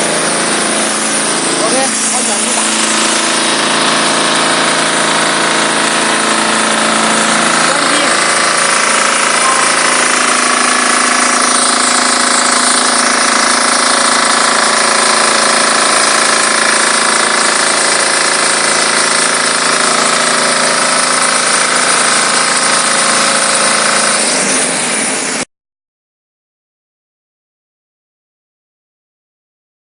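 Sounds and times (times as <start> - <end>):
diesel pressure washer running: 0.0 - 25.5.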